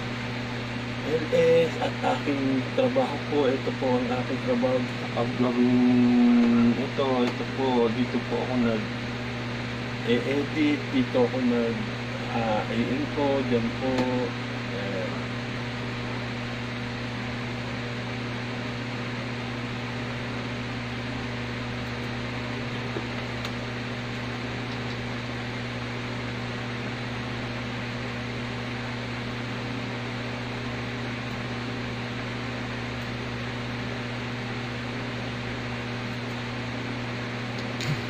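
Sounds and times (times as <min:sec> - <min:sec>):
electric fan hissing: 0:00.0 - 0:38.0
low electrical hum: 0:00.0 - 0:38.0.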